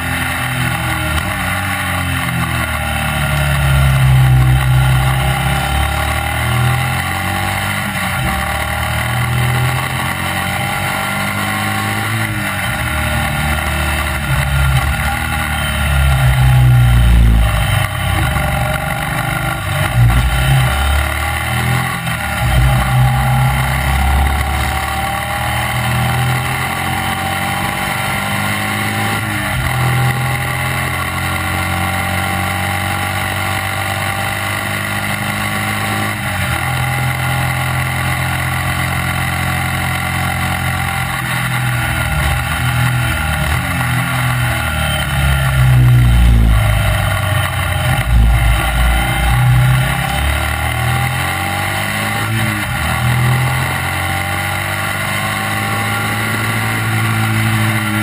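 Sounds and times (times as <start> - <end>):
gear changes: 0.0 - 58.0
racing engine running hard: 0.0 - 58.0.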